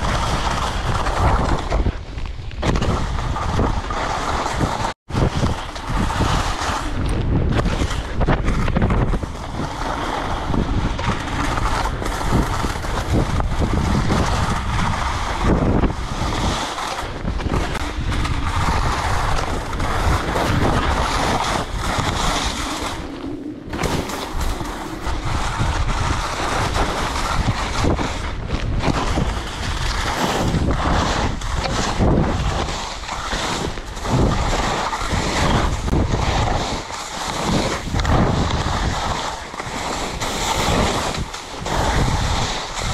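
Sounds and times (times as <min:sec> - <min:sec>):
skis sliding on snow: 0:00.0 - 0:42.9
wind buffeting microphone: 0:00.0 - 0:42.9.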